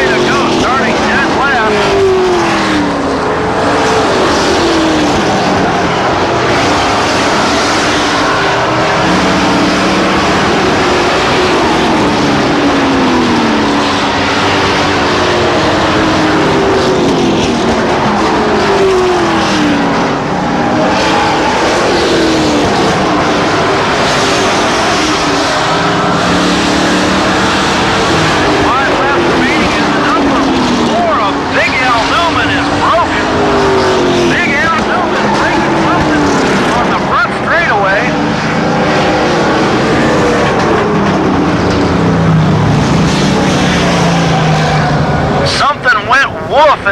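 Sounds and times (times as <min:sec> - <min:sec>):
racing trucks passing by: 0:00.0 - 0:46.9.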